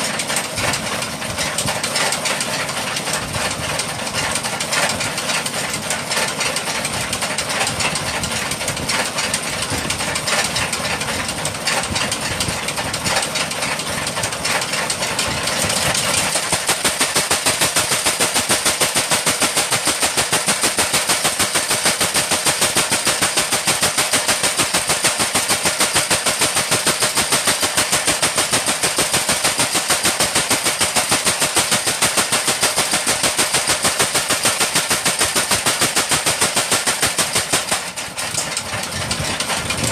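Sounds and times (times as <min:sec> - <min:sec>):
engine-driven machine running: 0:00.0 - 0:39.9.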